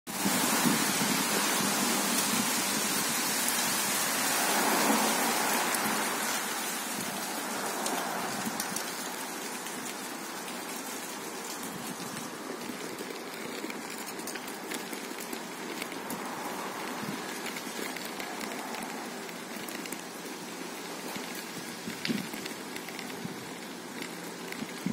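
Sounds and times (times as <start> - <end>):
light rain on a street: 0.1 - 24.9.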